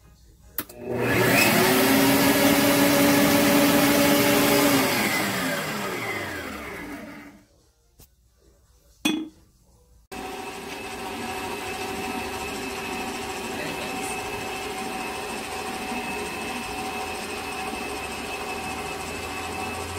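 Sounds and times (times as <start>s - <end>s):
stand mixer motor whining: 0.7s - 7.4s, 10.1s - 19.9s.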